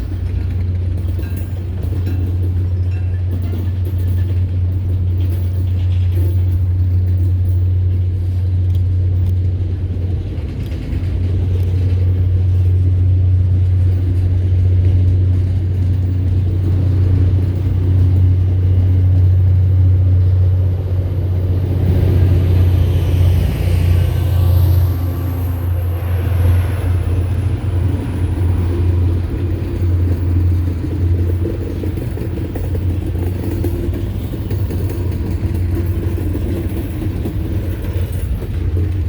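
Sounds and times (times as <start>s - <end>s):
diesel locomotive rumble: 0.0s - 39.0s
train rushing sound: 0.0s - 39.0s.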